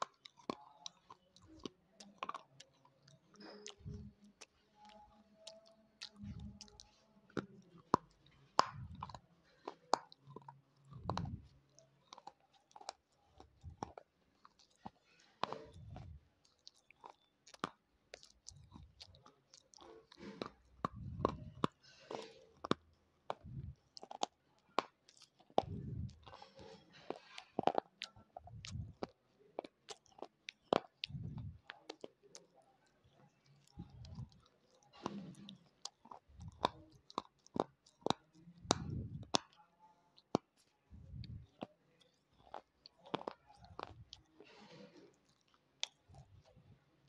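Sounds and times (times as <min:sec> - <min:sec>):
pencil crunching between teeth: 0:00.0 - 0:46.7
dull chewing thumps: 0:00.0 - 0:46.9.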